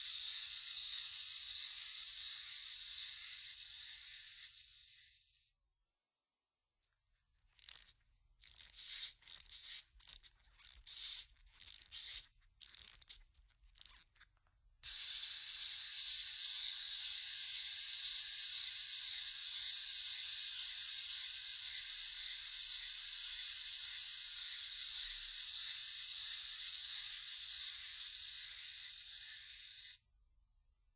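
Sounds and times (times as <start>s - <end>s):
wind-up key ratchet clicks: 0.0s - 5.0s, 7.5s - 30.0s.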